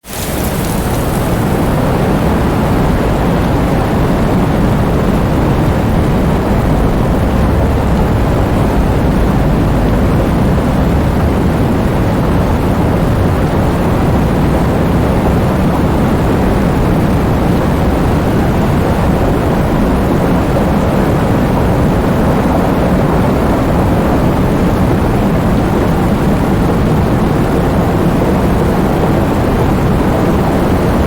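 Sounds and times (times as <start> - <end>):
wind and heavy rain rushing: 0.0 - 31.0.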